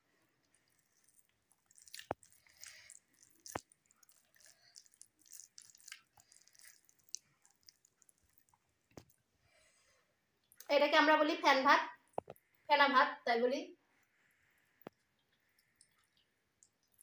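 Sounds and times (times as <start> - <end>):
fingers squishing mushy food: 0.0 - 10.7, 14.0 - 17.0.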